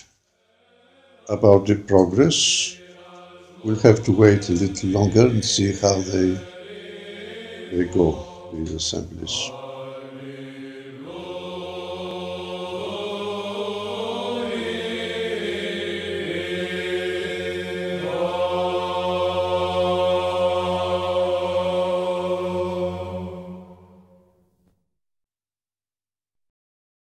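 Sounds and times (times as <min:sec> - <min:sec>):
choir chanting long notes: 0:00.0 - 0:24.4
low drone: 0:00.6 - 0:24.2.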